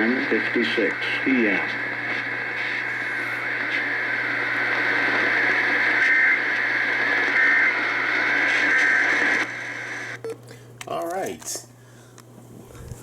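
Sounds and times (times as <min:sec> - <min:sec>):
radio static hiss: 0:00.0 - 0:11.7.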